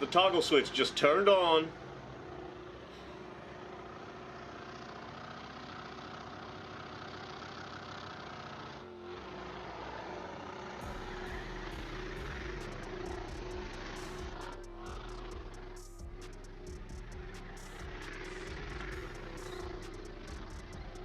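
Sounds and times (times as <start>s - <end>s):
supercharger whine: 0.0s - 21.0s
truck engine at high revs: 0.0s - 21.0s.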